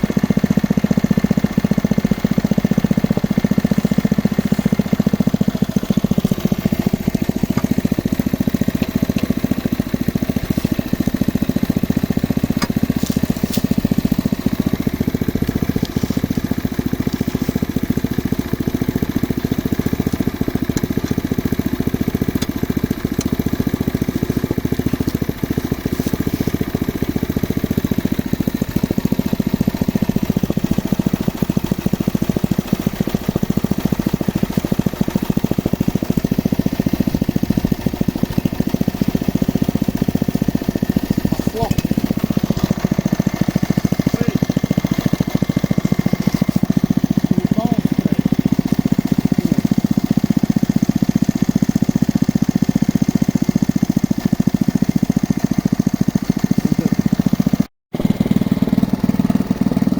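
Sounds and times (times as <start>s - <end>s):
drilling rig engine chugging: 0.0s - 59.9s.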